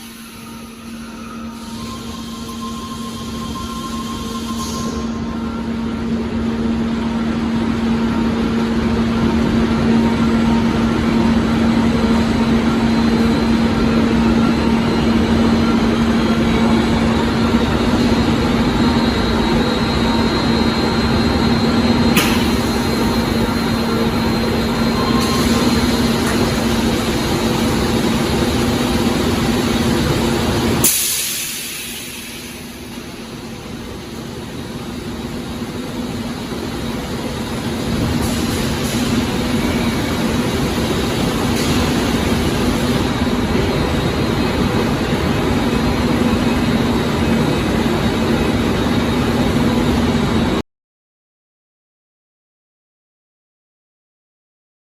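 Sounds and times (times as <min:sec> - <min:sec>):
production line machinery running: 0:00.0 - 0:50.6.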